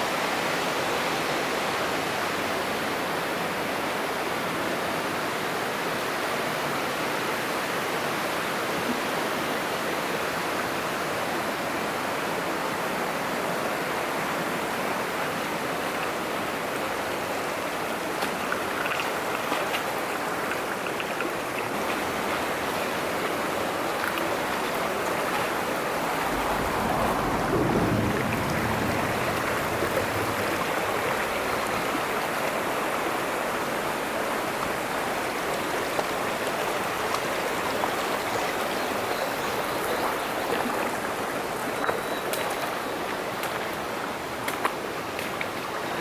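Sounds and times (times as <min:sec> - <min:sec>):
mountain stream running: 0:00.0 - 0:46.0.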